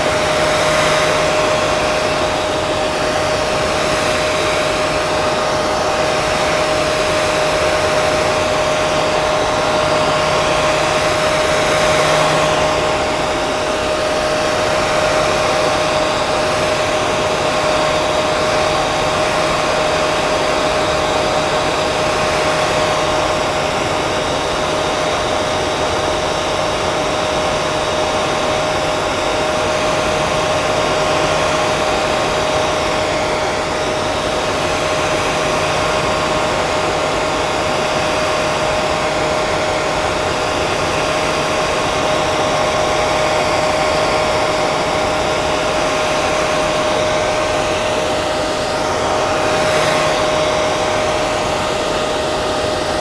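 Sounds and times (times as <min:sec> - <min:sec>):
hair dryer running: 0:00.0 - 0:53.0.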